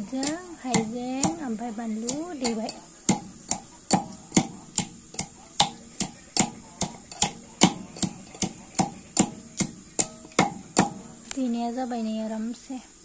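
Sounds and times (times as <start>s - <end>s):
hand mixing food in steel bowl: 0.0s - 11.8s.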